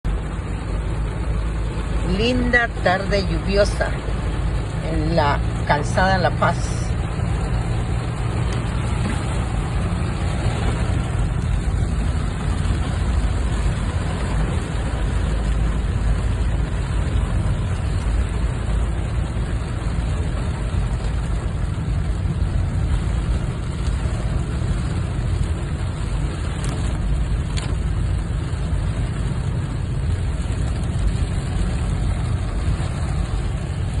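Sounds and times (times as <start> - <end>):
rain on a roadway: 0.0 - 34.0
vehicle traffic rumble: 0.0 - 34.0.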